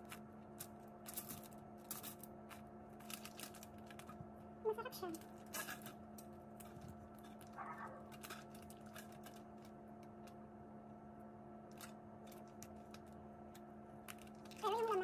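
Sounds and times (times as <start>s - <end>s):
shells cracking and peeling: 0.0s - 4.2s, 5.2s - 10.4s, 11.6s - 15.0s
steady low hum: 0.0s - 15.0s.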